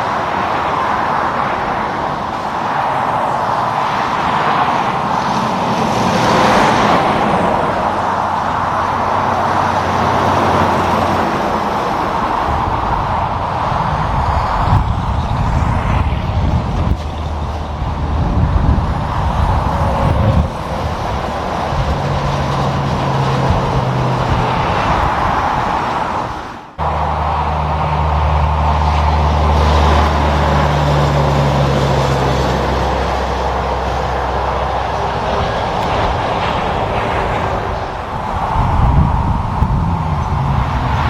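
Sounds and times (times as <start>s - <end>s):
diesel trucks driving past: 0.0s - 41.0s
tyre and road noise: 0.0s - 41.0s.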